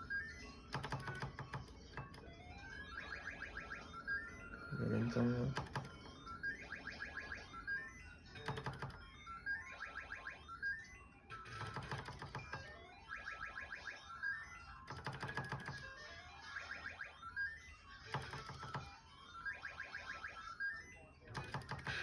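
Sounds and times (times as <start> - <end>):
rising run of beeps: 0.0 - 21.2
rapid electronic clicks: 0.1 - 22.0.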